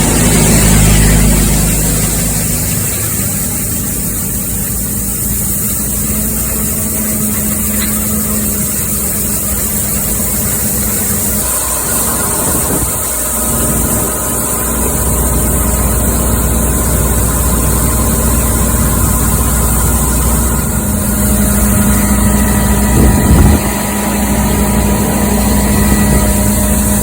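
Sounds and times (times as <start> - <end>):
farm machinery engine running: 0.0 - 27.0
steady hum: 0.0 - 27.0.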